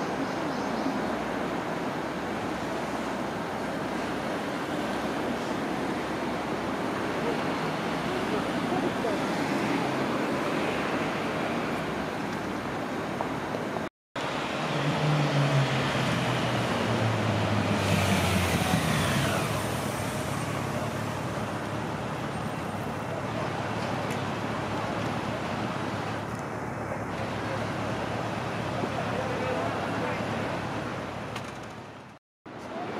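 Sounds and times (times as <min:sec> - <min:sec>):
street traffic noise: 0:00.0 - 0:32.9.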